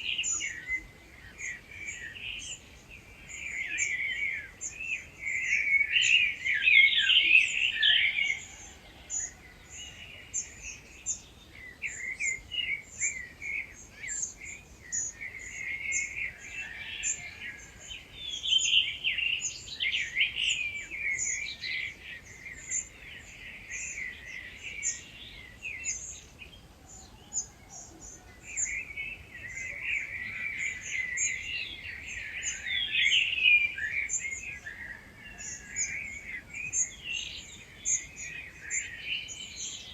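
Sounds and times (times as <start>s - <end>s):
birds warbling song: 0.0s - 39.9s.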